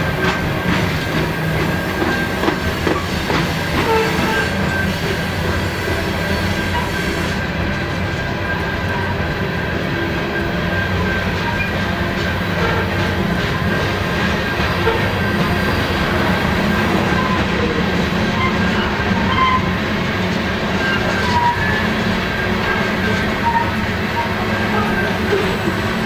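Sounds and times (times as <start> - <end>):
freight train rumbling past: 0.0 - 26.0
steel wheels rattling on rails: 0.0 - 26.0.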